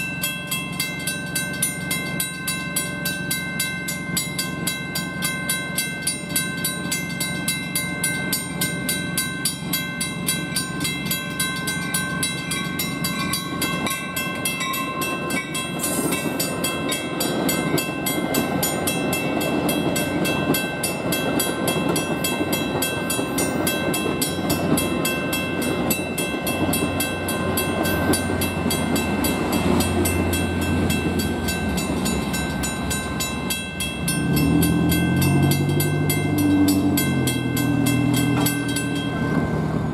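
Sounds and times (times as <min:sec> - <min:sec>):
crossing bells ringing: 0:00.0 - 0:39.9
train rumbling past: 0:00.0 - 0:39.9.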